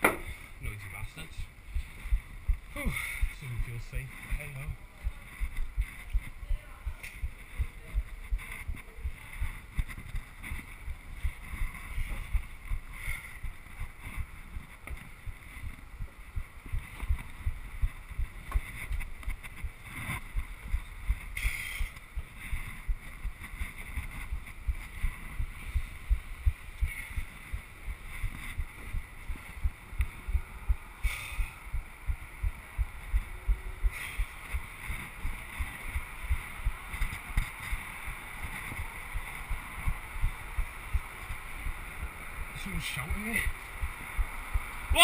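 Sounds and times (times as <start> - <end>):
steady hiss: 0.0 - 45.0
low thumps and rumble: 1.6 - 42.2, 43.8 - 45.0.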